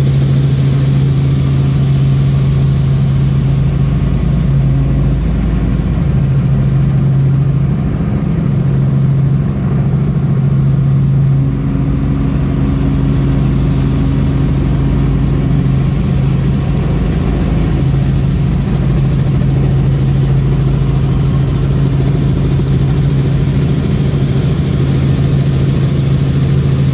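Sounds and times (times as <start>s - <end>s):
helicopter engine and rotor drone: 0.0s - 26.9s.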